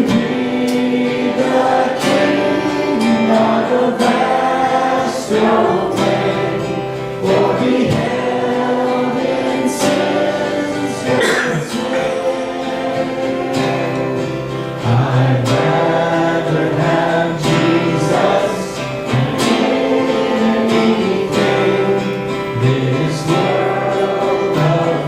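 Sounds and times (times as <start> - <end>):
choir singing gospel song: 0.0 - 25.0
guitar accompaniment: 0.0 - 25.0.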